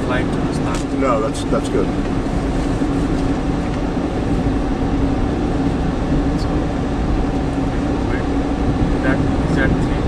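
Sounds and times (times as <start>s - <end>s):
car cabin road noise: 0.0s - 10.0s.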